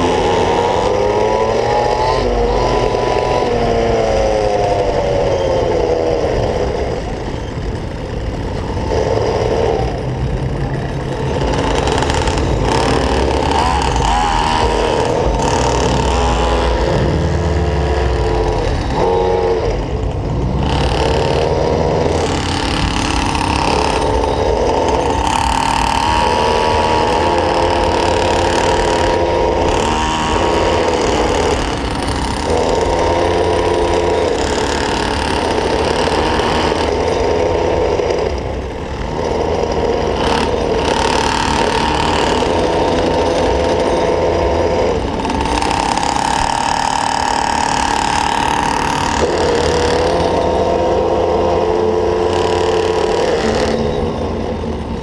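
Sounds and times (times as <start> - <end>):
small two-stroke engine buzzing: 0.0 - 55.0
wheels rumbling on asphalt: 0.0 - 55.0.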